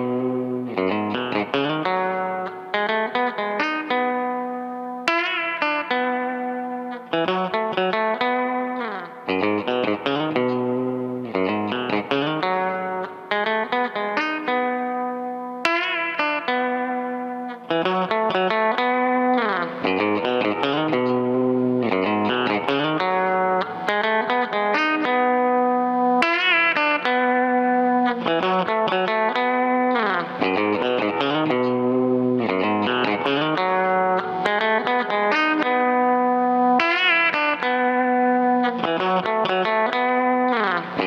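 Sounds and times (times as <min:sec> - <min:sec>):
electric guitar single-note line: 0:00.0 - 0:41.0.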